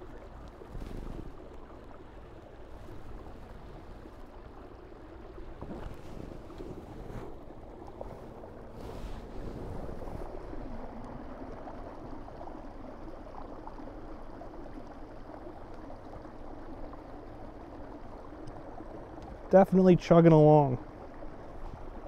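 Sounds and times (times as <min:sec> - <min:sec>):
water rushing and churning: 0:00.0 - 0:22.0.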